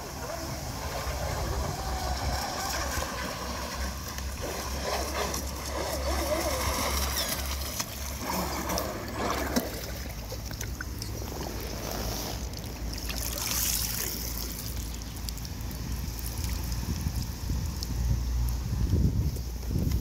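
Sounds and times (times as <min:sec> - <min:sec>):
wind rumble on microphone: 0:00.0 - 0:13.0, 0:14.1 - 0:20.0
water lapping against brick edge: 0:00.0 - 0:20.0.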